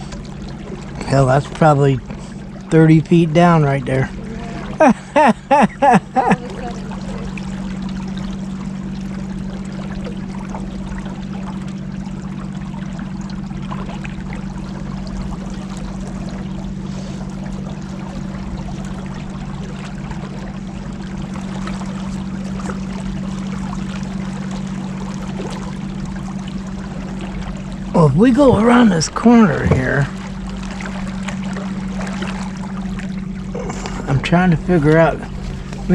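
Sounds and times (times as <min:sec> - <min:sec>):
boat motor humming: 0:00.0 - 0:35.9
water rushing past hull: 0:00.0 - 0:35.9.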